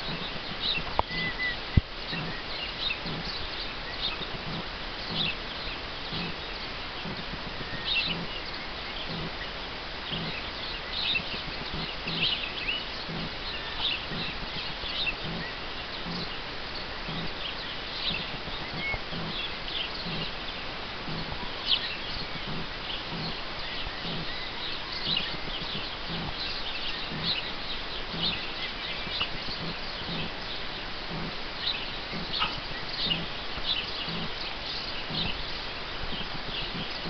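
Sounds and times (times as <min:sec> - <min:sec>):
emu chicks peeping: 0:00.0 - 0:37.0
low repeating pulse: 0:00.0 - 0:37.0.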